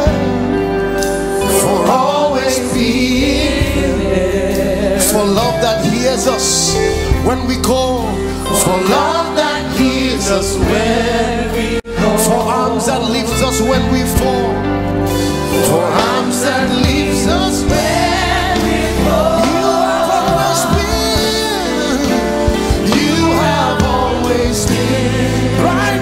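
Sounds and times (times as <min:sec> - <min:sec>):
choir singing: 0:00.0 - 0:14.6, 0:15.2 - 0:26.0
band playing gospel music: 0:00.0 - 0:26.0.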